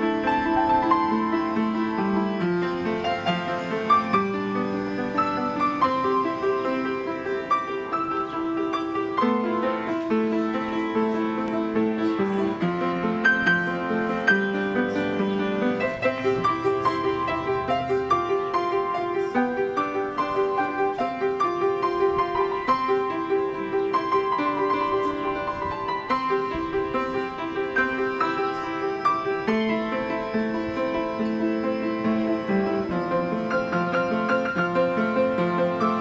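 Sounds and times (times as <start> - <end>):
piano playing: 0.0 - 36.0.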